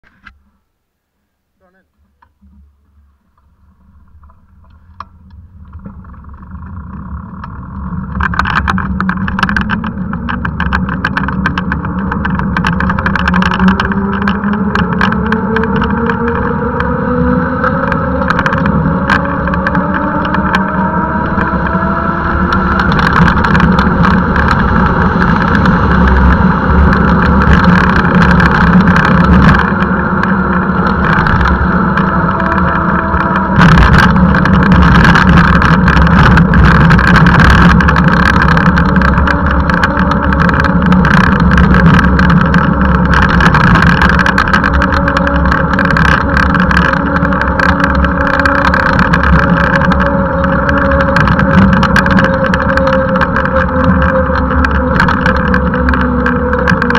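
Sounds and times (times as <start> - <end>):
faint rising whine: 0.0 - 56.9
wind and road rumble: 0.0 - 56.9
clicks and rattles: 3.3 - 56.9.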